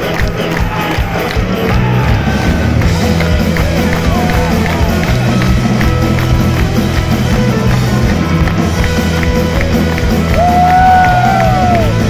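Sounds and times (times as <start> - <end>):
drum beat: 0.0 - 12.0
punk band playing live: 0.0 - 12.0.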